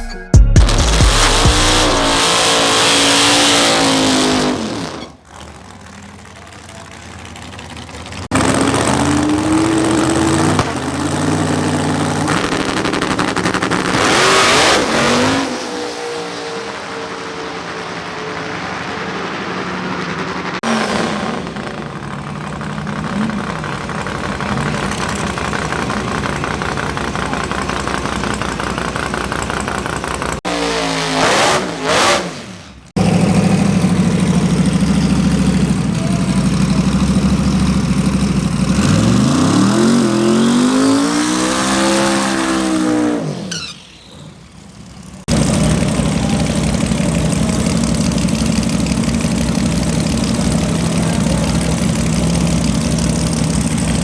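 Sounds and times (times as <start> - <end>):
race car engines revving: 0.6 - 54.0.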